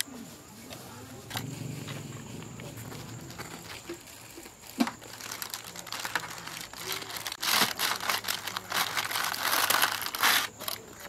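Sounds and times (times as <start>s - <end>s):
crusty bread crackling: 0.7s - 11.0s.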